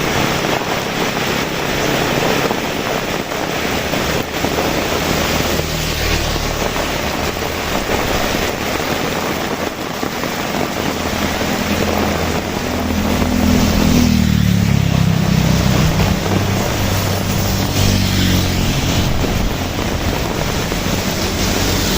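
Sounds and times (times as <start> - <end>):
heavy rainfall: 0.0 - 21.9
passing vehicle engine hum: 0.0 - 21.9.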